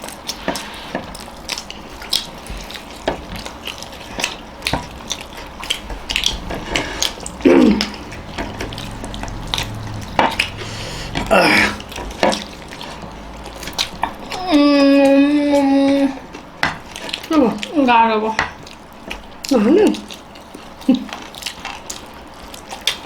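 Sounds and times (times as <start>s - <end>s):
wet chewing and smacking: 0.0s - 23.0s.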